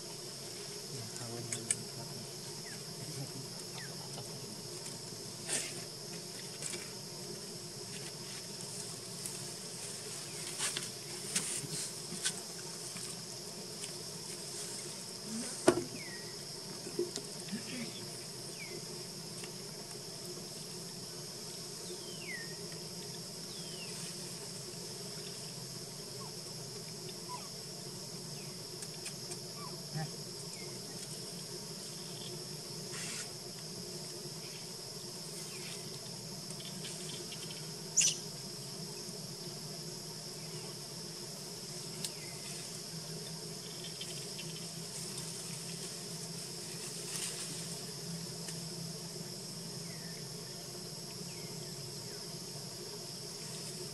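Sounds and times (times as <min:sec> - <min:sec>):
insects buzzing: 0:00.0 - 0:53.9.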